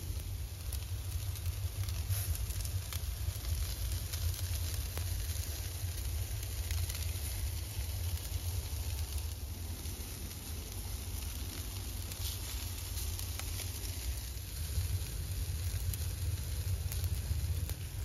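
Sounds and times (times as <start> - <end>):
fat sizzling on coals: 0.0 - 18.0
fire crackling: 0.0 - 18.0
low rumble: 0.0 - 18.0.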